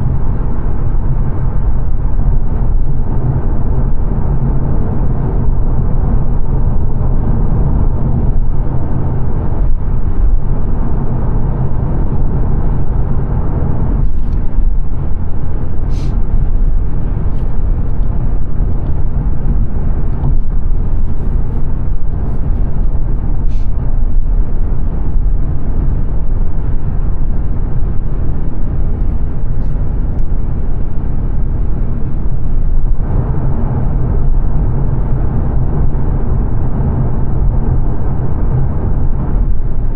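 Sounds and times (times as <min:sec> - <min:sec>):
car engine noise: 0:00.0 - 0:39.9
road and tyre rumble: 0:00.0 - 0:39.9.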